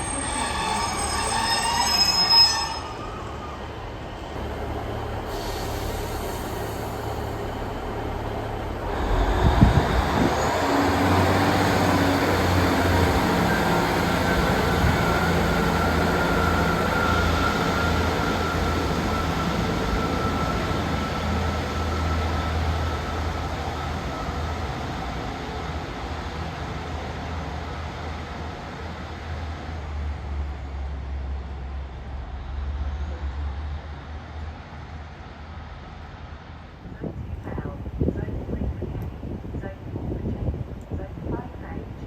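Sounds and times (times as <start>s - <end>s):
train passing on rails: 0.0s - 42.0s.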